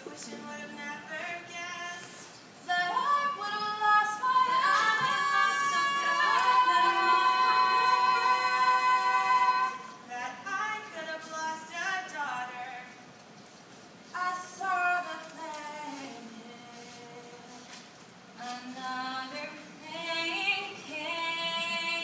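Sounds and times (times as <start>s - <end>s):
woman singing unaccompanied: 0.0s - 13.0s, 14.1s - 17.8s, 18.4s - 22.0s.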